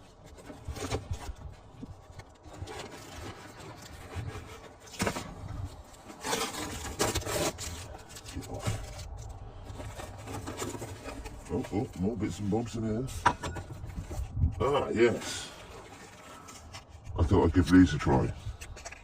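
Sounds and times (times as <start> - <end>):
rummaging through box contents: 0.0 - 19.0.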